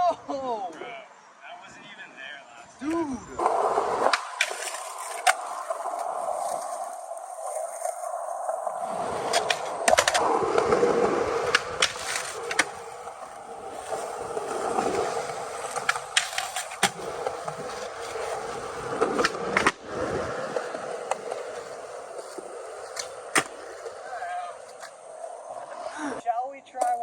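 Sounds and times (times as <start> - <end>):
skateboard wheels rolling on pavement: 3.2 - 27.0
skateboard clacks: 3.4 - 25.8.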